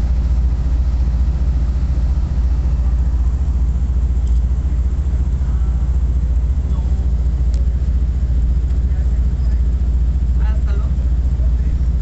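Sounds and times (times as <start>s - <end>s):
moving train rumble: 0.0s - 12.0s.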